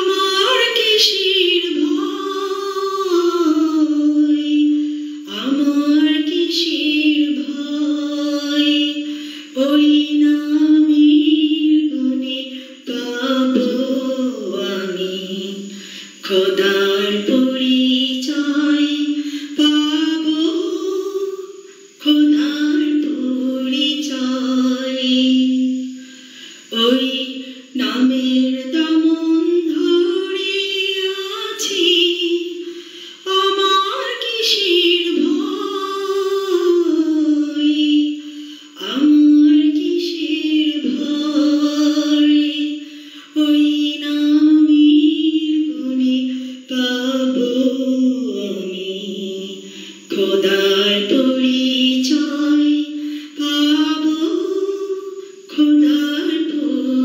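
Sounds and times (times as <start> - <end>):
woman singing: 0.0 - 57.0.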